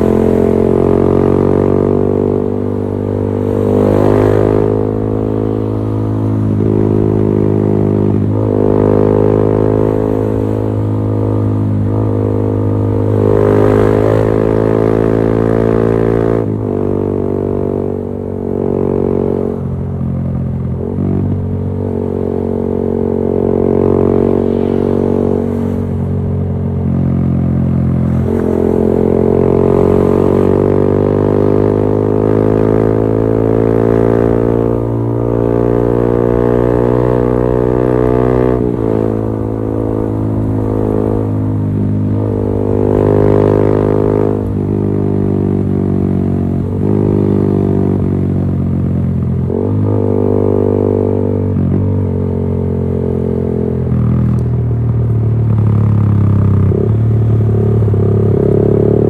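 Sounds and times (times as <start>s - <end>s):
motorcycle engine exhaust note: 0.0s - 59.0s.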